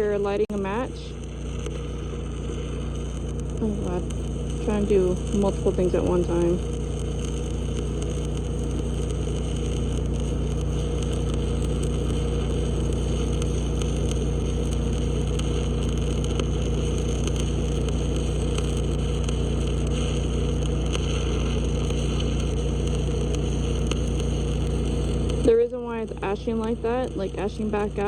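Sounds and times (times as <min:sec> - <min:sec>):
low electrical hum: 0:00.0 - 0:28.0
welding arc crackling: 0:00.0 - 0:28.0.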